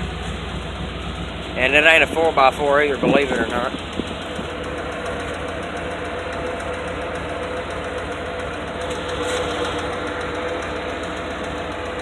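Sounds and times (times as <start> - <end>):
fast even engine ticking: 0.0 - 12.0
pickup engine idling: 0.0 - 12.0.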